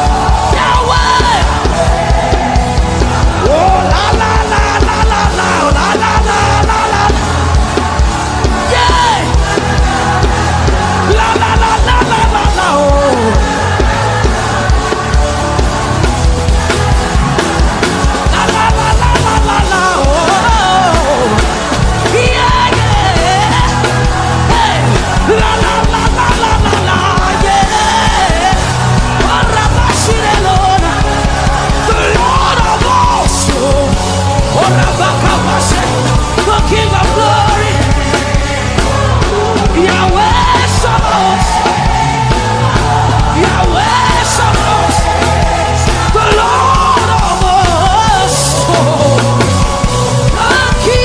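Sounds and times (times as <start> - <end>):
congregation singing: 0.0 - 51.0
gospel band playing: 0.0 - 51.0
pulsing bass and drum beat: 0.0 - 51.0.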